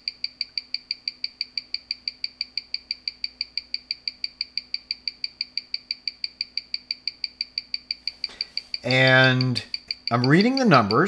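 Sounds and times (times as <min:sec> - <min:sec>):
watch ticking: 0:00.0 - 0:11.0.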